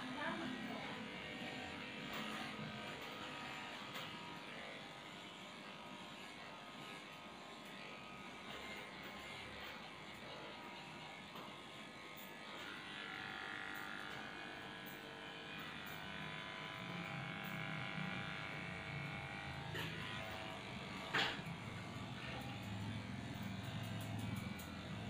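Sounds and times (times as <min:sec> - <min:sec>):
electric dog clipper running: 0:00.0 - 0:25.0.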